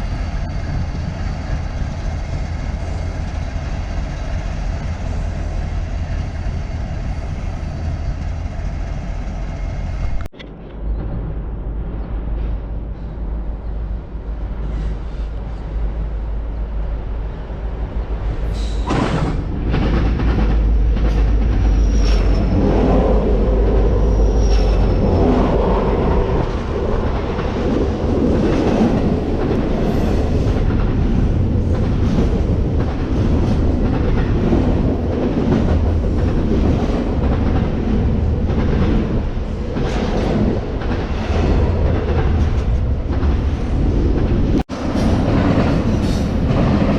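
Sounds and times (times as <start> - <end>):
train rolling past: 0.0 - 46.9.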